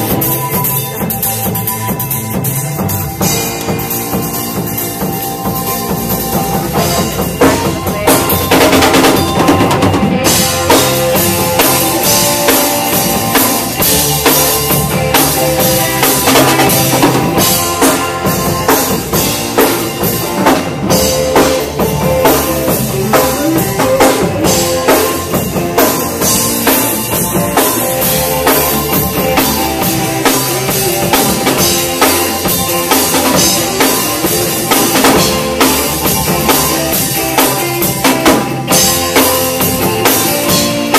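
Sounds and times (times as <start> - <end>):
drum kit: 0.0 - 40.9
loud band music: 0.0 - 40.9.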